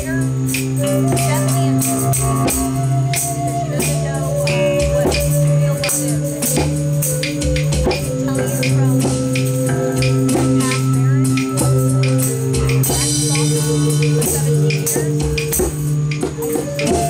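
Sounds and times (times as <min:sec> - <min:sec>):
cymbal strokes: 0:00.0 - 0:17.0
drum kit beat: 0:00.0 - 0:17.0
keyboard notes: 0:00.0 - 0:17.0
low bass notes: 0:00.0 - 0:17.0.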